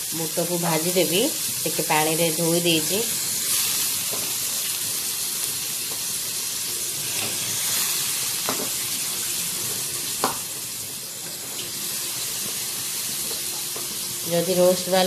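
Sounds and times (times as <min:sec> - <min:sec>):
lentils sizzling in a pan: 0:00.0 - 0:15.0.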